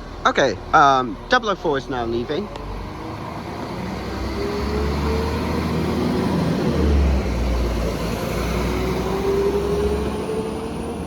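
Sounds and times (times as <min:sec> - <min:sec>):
rising train whine: 0:00.0 - 0:11.0
train engine rumble: 0:00.0 - 0:11.0.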